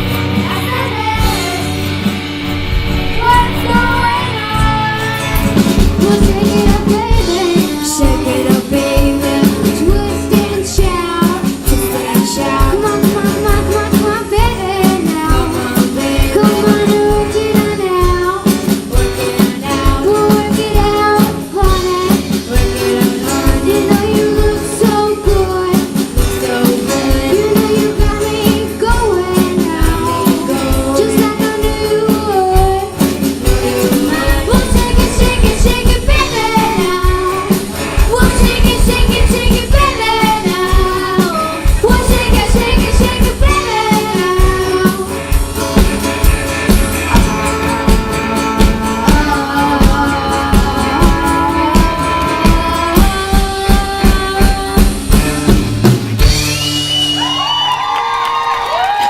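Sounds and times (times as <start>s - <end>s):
rock band playing live: 0.0s - 59.0s
person singing: 3.1s - 55.2s.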